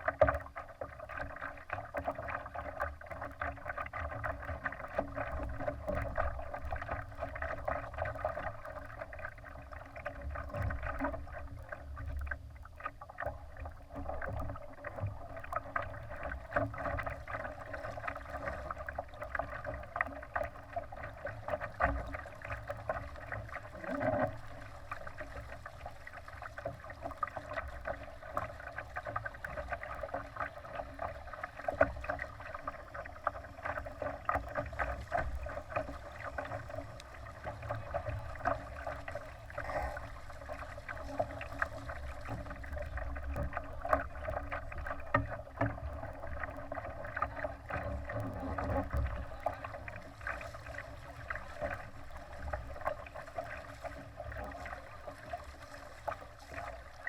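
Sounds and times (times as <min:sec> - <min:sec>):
water splashing against boat hull: 0:00.0 - 0:57.0.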